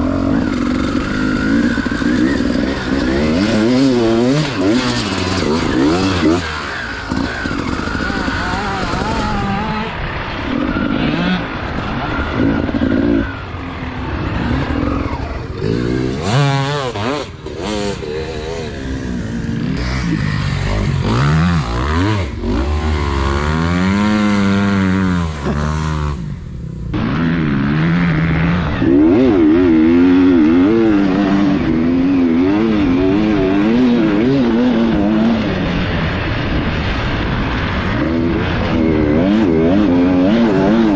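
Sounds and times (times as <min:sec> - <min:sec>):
dirt bike engines revving: 0:00.0 - 0:40.9
motorcycle engine revving: 0:00.0 - 0:40.9.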